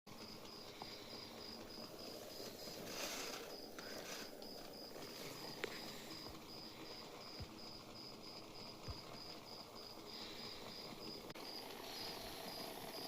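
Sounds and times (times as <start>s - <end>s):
background hiss: 0.1s - 13.0s.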